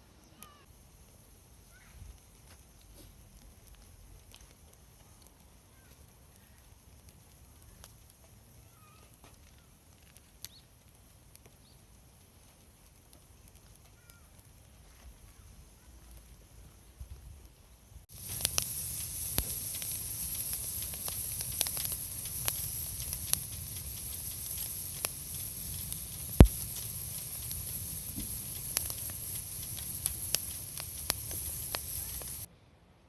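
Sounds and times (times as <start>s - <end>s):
campfire crackling and popping: 0.6s - 32.5s.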